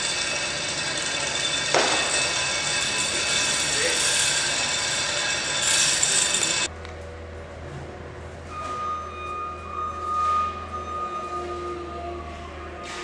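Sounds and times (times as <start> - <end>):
construction machinery whining: 0.0 - 13.0.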